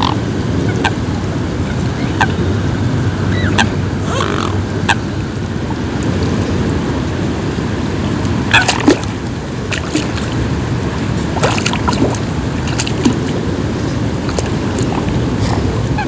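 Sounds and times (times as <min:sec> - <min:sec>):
rain on a lake: 0:00.0 - 0:16.0.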